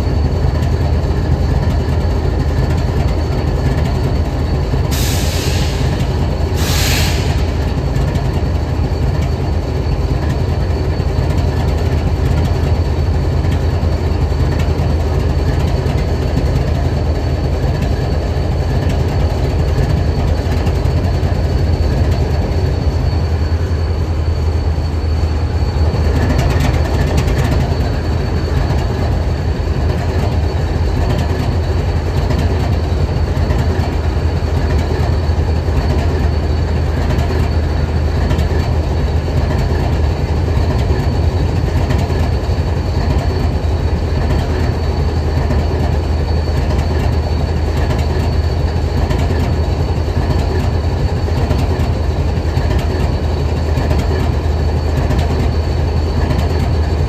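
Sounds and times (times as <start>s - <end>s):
locomotive engine idling: 0.0s - 57.0s.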